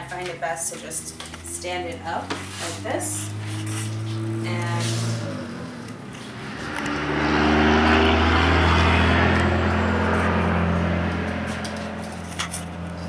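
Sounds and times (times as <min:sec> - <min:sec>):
passing engine hum: 0:00.0 - 0:13.0.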